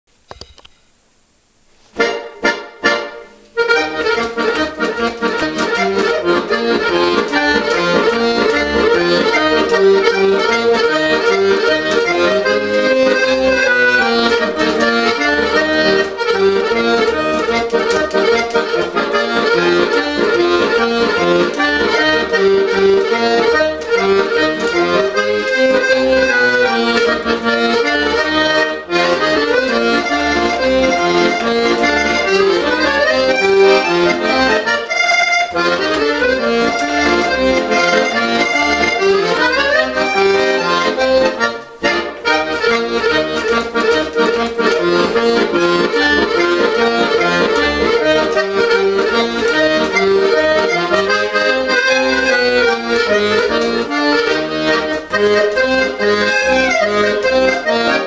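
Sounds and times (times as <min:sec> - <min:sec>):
accordion playing a tune: 0:01.8 - 0:58.0.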